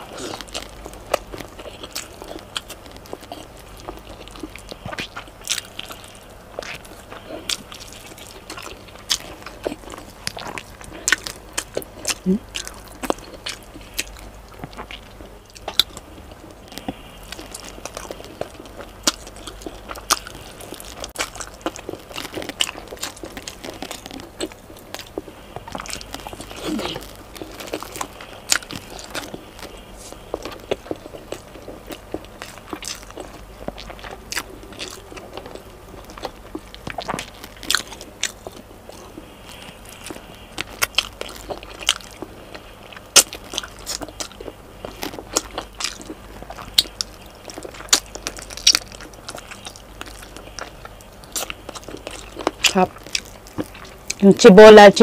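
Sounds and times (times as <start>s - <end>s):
chewing and biting food: 0.0s - 54.3s.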